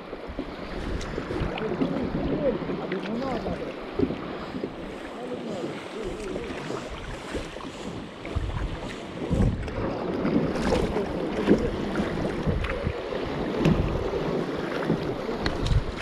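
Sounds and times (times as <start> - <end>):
paddle splashing in water: 0.0 - 16.0
wind buffeting microphone: 0.0 - 16.0.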